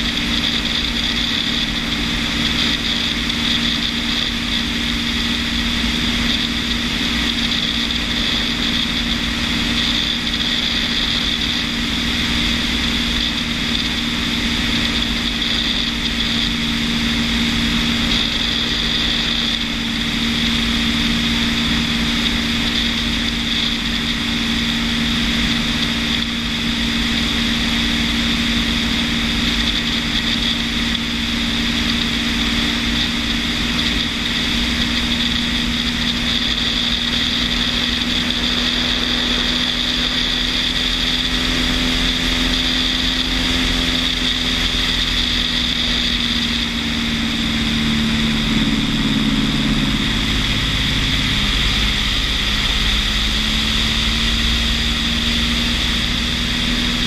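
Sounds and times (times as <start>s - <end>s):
propeller aircraft engine: 0.0s - 57.0s
wind rushing over microphone: 0.0s - 57.0s.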